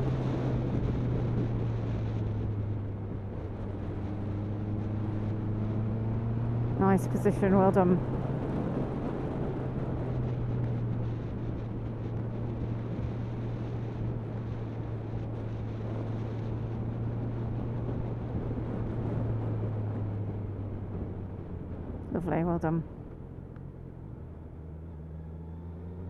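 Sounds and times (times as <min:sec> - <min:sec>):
wind rush over microphone: 0:00.0 - 0:22.2
motorcycle engine drone: 0:00.0 - 0:26.0.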